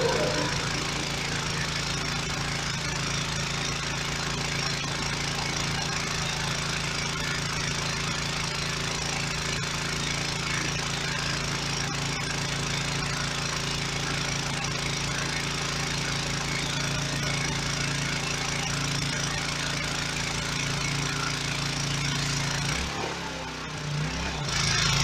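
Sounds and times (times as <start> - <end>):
pressure washer low drone: 0.0 - 25.0.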